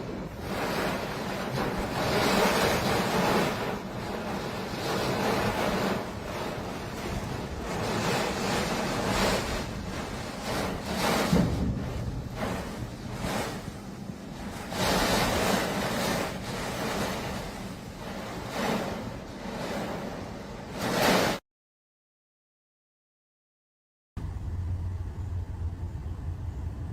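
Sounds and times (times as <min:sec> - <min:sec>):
storm wind gusting: 0:00.0 - 0:21.4, 0:24.2 - 0:26.9
wind buffeting microphone: 0:00.0 - 0:21.4, 0:24.2 - 0:26.9.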